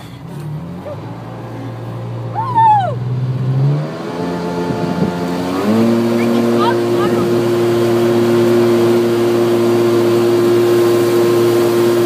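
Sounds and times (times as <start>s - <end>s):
motorboat engine speeding up: 0.4s - 12.0s.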